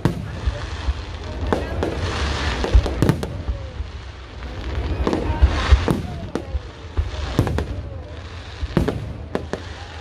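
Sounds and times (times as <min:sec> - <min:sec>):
firework crackling: 0:00.0 - 0:10.0.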